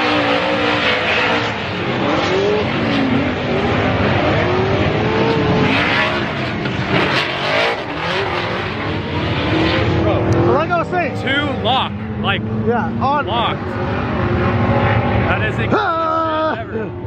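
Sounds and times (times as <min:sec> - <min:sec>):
car engines revving: 0:00.0 - 0:17.0
tyre and exhaust noise: 0:00.0 - 0:17.0.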